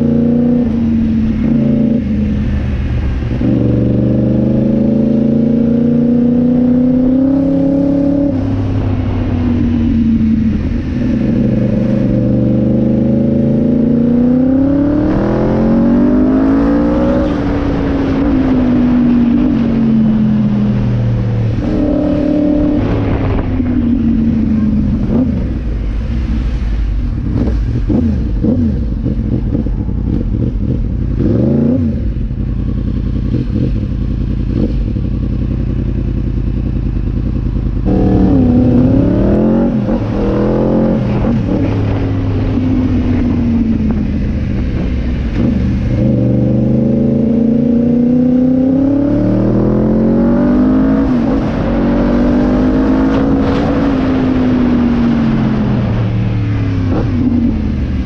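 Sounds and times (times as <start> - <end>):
engine accelerating through gears: 0.0 - 58.0
engine revving: 0.0 - 58.0
wind and road noise: 0.0 - 58.0.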